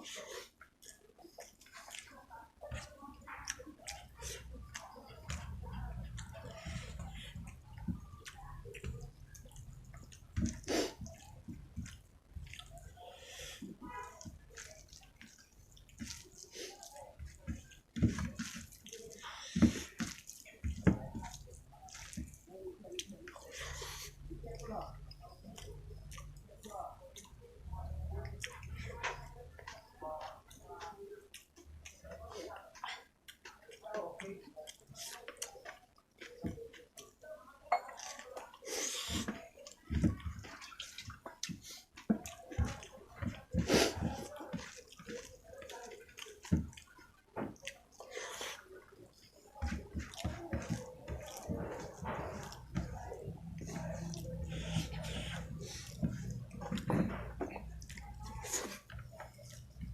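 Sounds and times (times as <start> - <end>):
wet eating squelches and slurps: 0.0 - 59.9.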